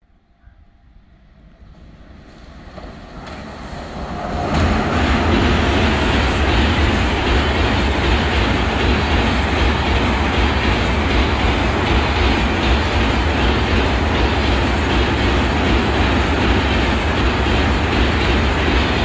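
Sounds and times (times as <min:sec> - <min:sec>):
train wheels rolling over bridge: 0:01.7 - 0:19.0.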